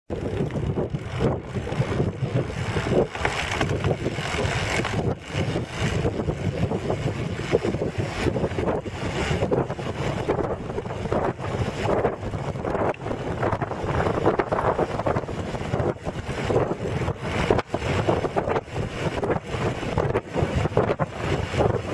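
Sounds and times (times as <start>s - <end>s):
wind buffeting microphone: 0.1s - 21.9s.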